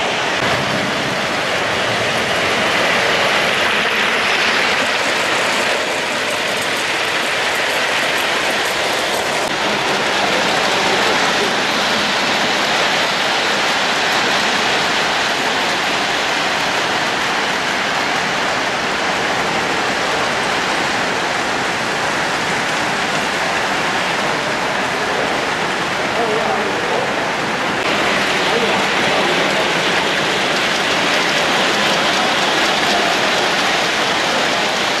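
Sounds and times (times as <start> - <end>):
model train wheels rolling: 0.0 - 35.0.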